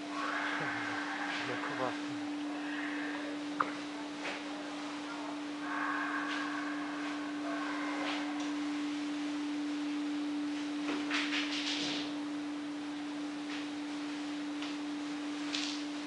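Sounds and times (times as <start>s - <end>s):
steady single-pitch hum: 0.0s - 16.0s.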